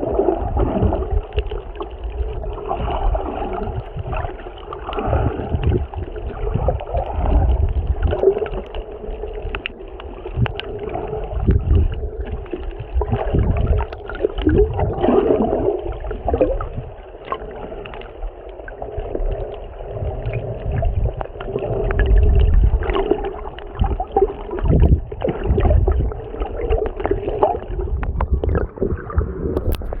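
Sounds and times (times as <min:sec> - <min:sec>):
sea water sloshing and gurgling: 0:00.0 - 0:30.0.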